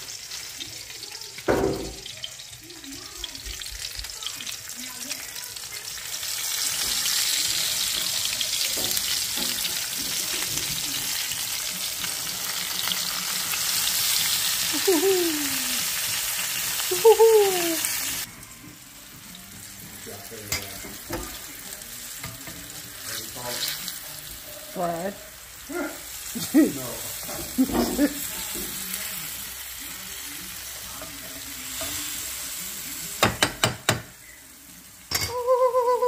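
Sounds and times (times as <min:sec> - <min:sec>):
pork chops sizzling in oil: 0:00.0 - 0:36.0.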